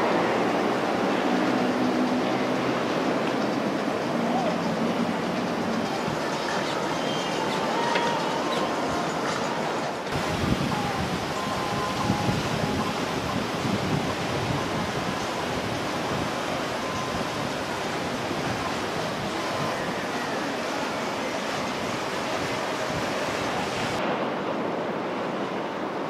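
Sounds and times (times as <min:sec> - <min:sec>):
churning water from boat wake: 0:00.0 - 0:26.0.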